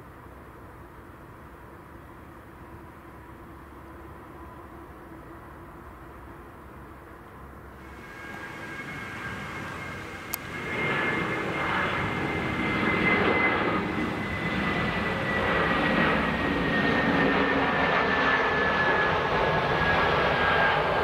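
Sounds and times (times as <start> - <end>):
jet airliner engines whining: 1.5 - 21.0.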